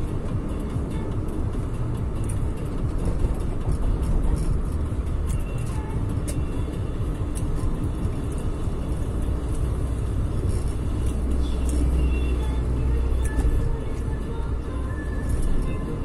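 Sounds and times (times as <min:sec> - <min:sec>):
car road and engine rumble: 0:00.0 - 0:16.0
truck passing: 0:00.0 - 0:16.0.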